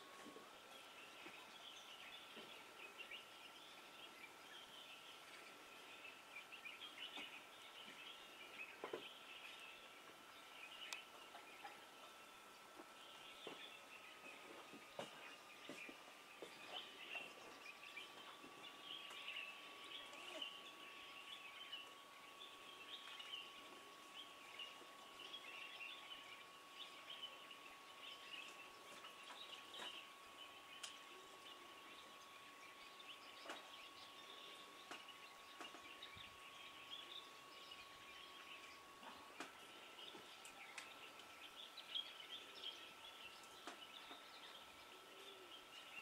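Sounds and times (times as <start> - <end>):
distant birds chirping: 0.0 - 46.0.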